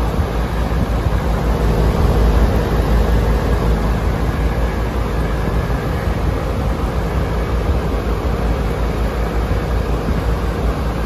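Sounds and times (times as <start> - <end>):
air conditioner fan rushing: 0.0 - 11.0
faint hum: 0.0 - 11.0.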